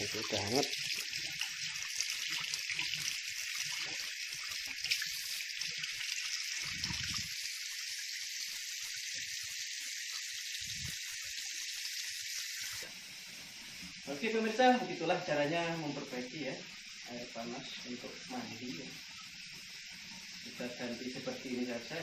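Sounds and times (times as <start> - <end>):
water running from a tap: 0.0 - 22.0.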